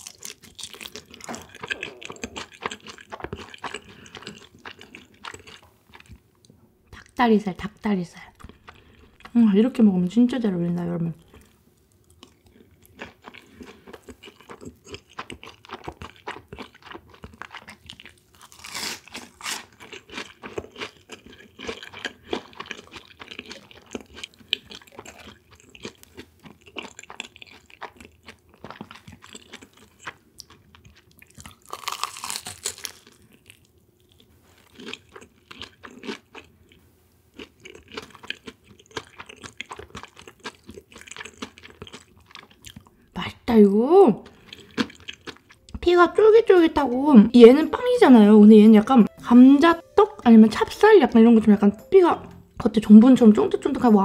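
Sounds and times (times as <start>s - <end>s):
chewing and crunching food: 0.0s - 43.1s, 44.2s - 45.9s.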